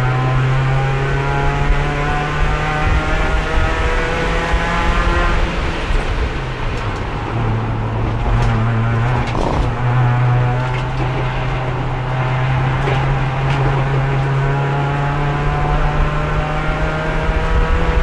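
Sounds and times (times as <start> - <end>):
race car engine under load: 0.0 - 18.0.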